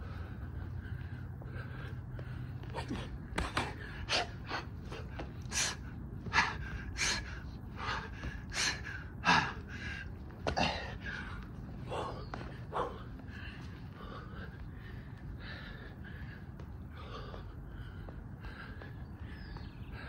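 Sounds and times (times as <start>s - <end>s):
man breathing hard and gasping: 0.0s - 20.0s.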